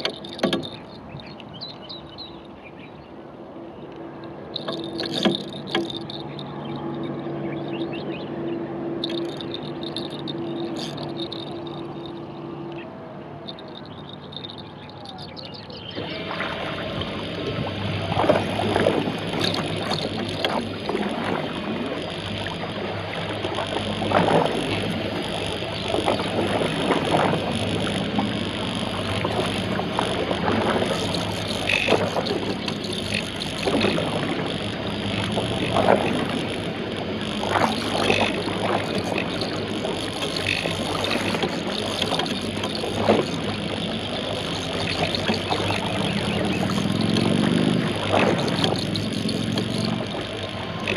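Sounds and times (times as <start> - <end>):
water splashing: 0.0 - 1.8, 4.5 - 7.9, 9.0 - 12.3, 13.4 - 50.9
model boat motor running: 0.0 - 2.4, 4.2 - 50.9
water churning and slapping hull: 0.0 - 3.2, 4.0 - 50.9.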